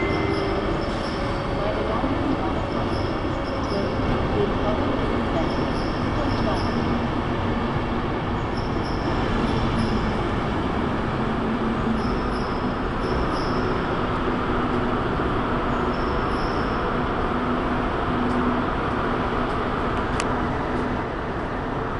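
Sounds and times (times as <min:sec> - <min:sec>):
train coaches rumbling past: 0:00.0 - 0:21.9.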